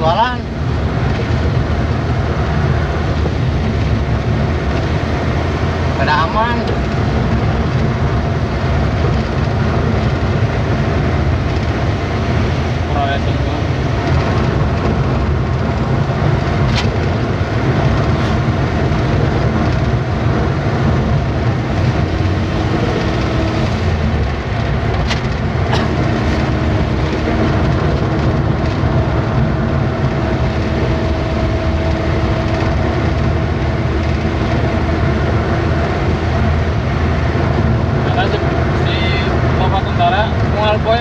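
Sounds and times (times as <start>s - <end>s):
vehicle driving on road: 0.0s - 41.0s.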